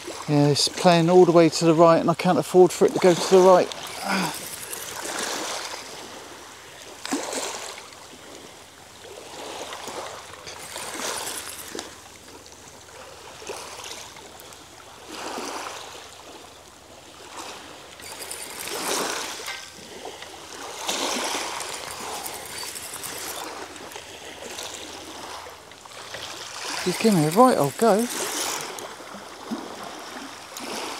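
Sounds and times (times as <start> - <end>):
waves washing over shingle: 0.0 - 30.9.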